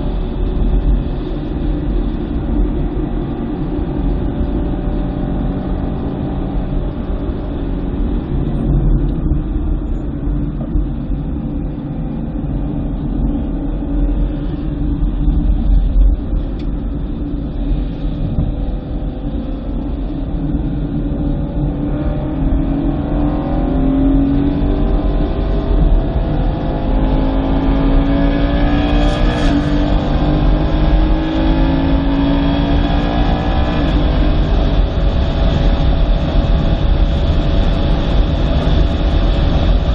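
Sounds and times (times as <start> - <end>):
car engine under load: 0.0 - 39.9
road and wind rumble: 0.0 - 39.9.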